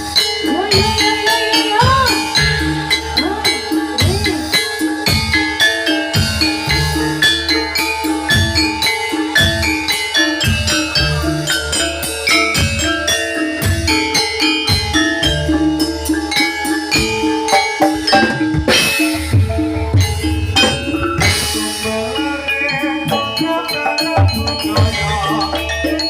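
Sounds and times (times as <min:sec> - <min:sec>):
metallophones playing struck notes: 0:00.0 - 0:26.0.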